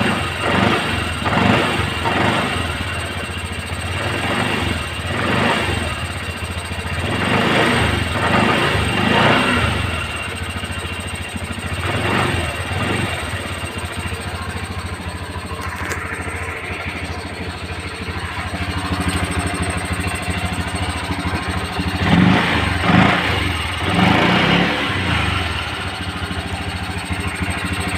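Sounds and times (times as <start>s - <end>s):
scooter engine idling: 0.0s - 27.9s.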